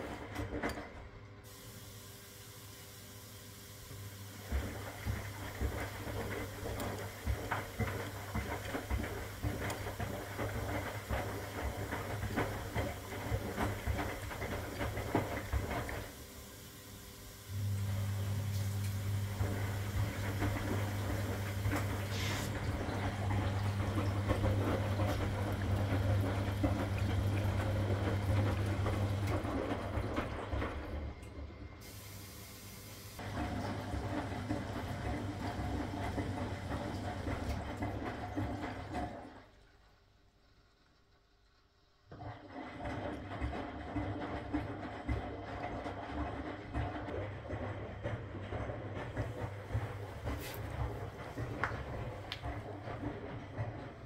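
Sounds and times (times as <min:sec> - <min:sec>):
washing machine motor hum: 0:00.0 - 0:40.0, 0:41.5 - 0:54.0
water sloshing in washing machine: 0:00.0 - 0:40.9, 0:41.9 - 0:54.0.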